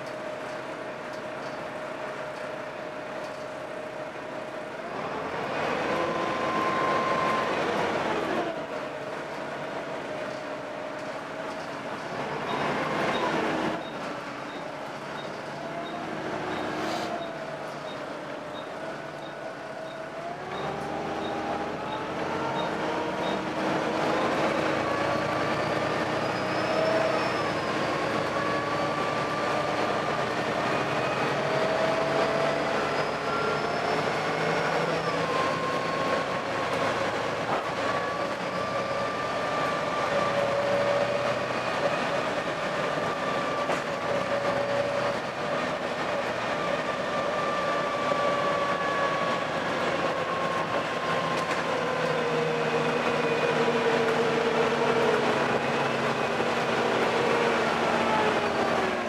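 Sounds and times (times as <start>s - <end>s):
bus driveline whining: 0.0s - 59.0s.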